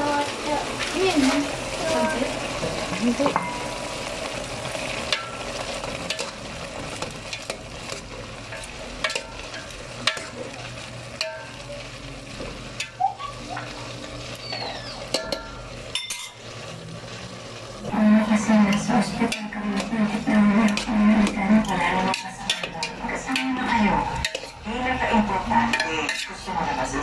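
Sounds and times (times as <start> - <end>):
vegetables sizzling in a pot: 0.0 - 27.0.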